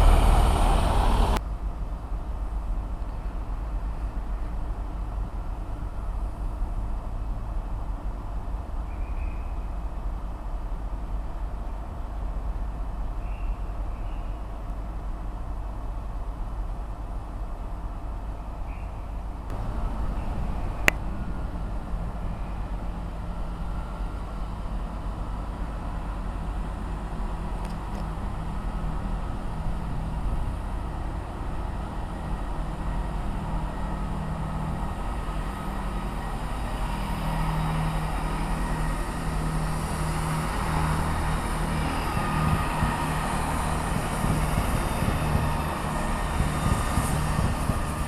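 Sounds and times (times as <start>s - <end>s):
diesel train engine hum: 0.0s - 48.0s.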